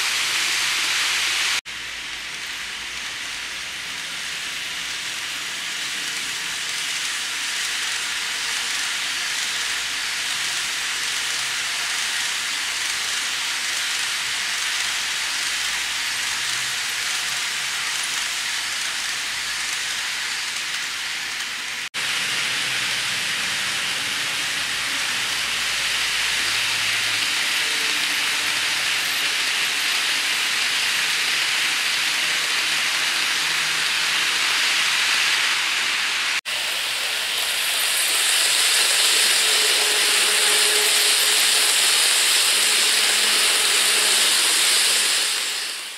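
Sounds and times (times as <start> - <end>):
model train running on track: 0.0 - 45.9.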